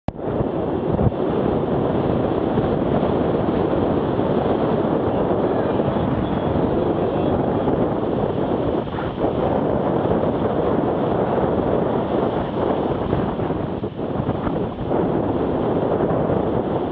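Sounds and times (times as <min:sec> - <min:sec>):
wind rushing over microphone: 0:00.1 - 0:16.9.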